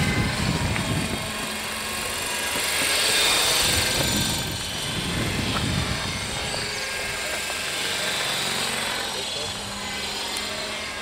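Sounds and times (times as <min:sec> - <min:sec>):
model helicopter whine: 0:00.0 - 0:11.0.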